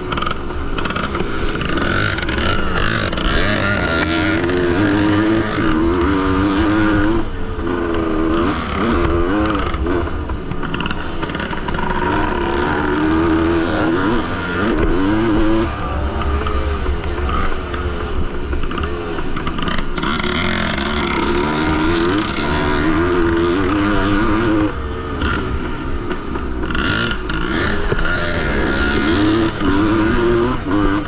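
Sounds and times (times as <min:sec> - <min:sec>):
two-stroke motocross bike racing: 0:00.0 - 0:31.0.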